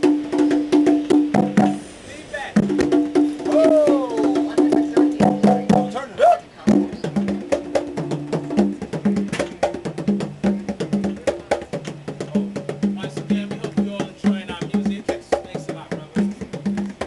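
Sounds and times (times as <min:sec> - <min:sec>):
low drum strokes: 0:00.0 - 0:17.0
sharp percussion clicks: 0:00.2 - 0:01.8, 0:02.6 - 0:03.4, 0:04.2 - 0:06.1, 0:06.7 - 0:17.0.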